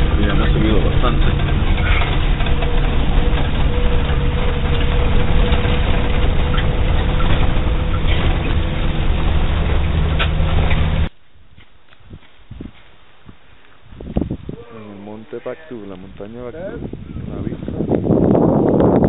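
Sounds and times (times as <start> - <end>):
engine and road noise rumble: 0.0 - 19.0.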